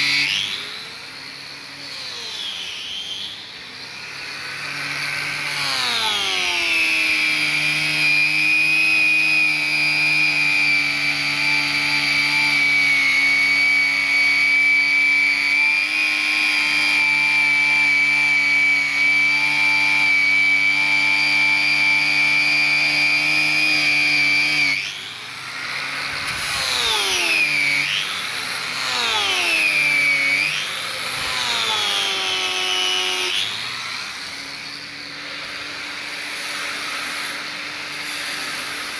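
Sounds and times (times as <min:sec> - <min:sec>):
angle grinder polishing metal: 0:00.0 - 0:38.9.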